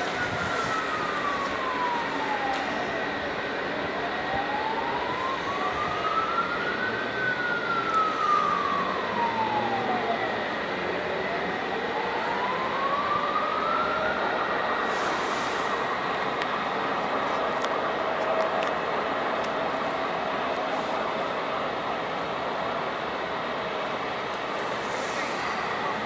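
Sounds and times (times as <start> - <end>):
emergency vehicle siren wailing: 0.0 - 26.0
steady background noise: 0.0 - 26.0.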